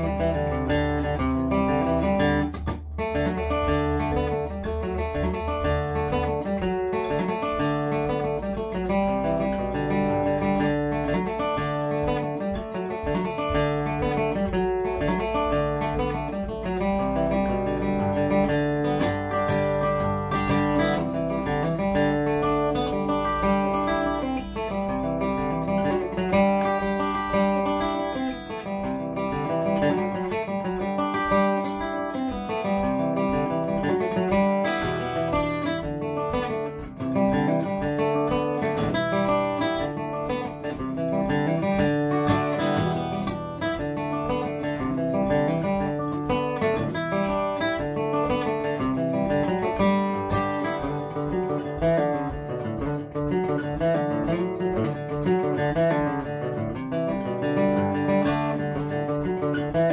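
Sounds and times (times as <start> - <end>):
acoustic guitar fiddle tune: 0.0 - 59.9.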